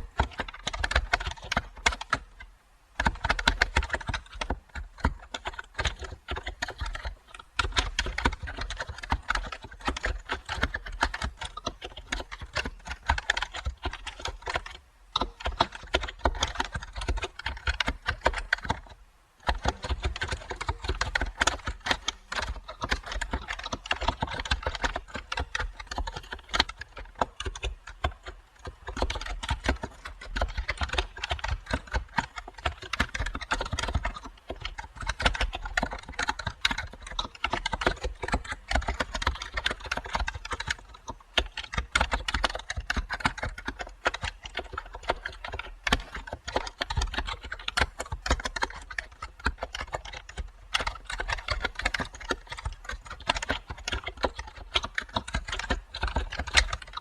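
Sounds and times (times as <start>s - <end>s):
computer keyboard typing: 0.0s - 57.0s.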